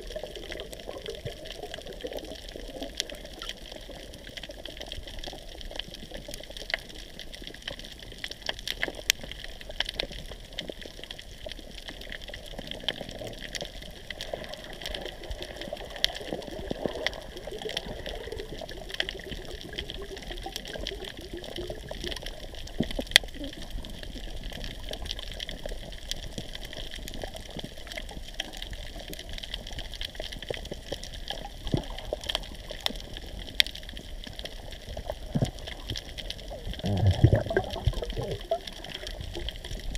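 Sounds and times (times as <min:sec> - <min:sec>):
small sharp clicks and crackles: 0:00.0 - 0:39.9
steady watery hiss: 0:00.0 - 0:39.9.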